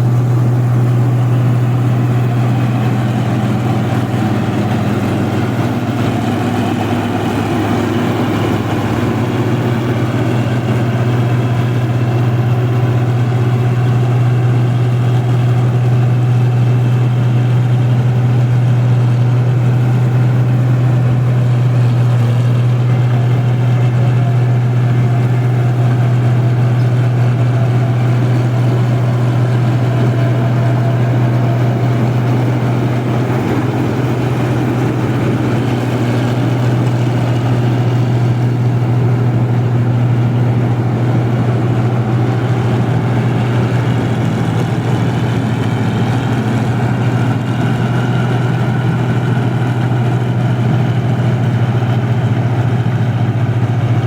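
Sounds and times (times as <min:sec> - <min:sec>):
harvester engine droning: 0:00.0 - 0:54.0.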